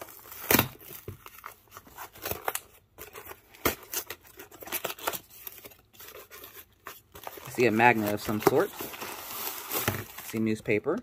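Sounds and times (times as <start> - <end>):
cardboard box tearing: 0.0 - 10.4
paper packing rustling: 0.0 - 11.0.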